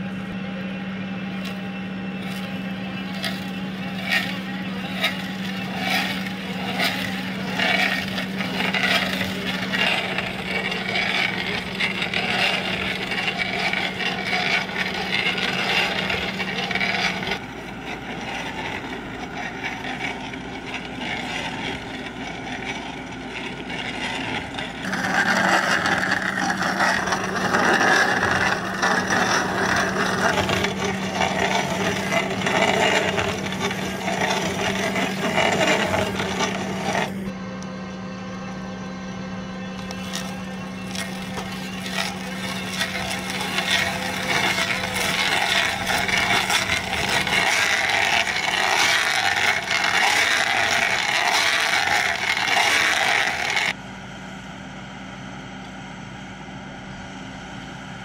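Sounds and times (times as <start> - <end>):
stump crusher grinding stump: 0.0 - 37.4, 39.8 - 53.8
backhoe engine running: 0.0 - 58.0.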